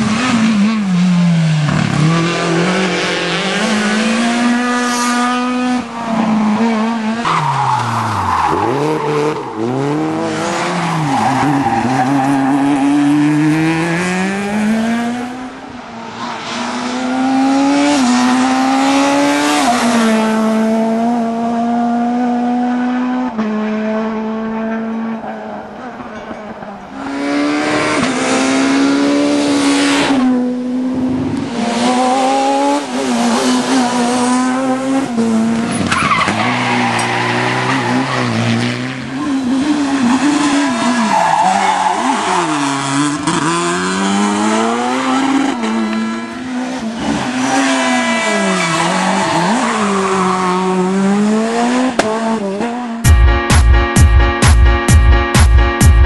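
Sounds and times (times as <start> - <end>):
rally car engines revving: 0.0 - 53.0.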